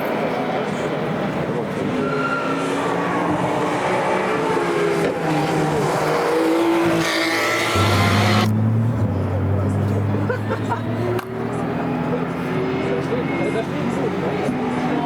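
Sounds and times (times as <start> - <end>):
race cars passing at speed: 0.0 - 15.0.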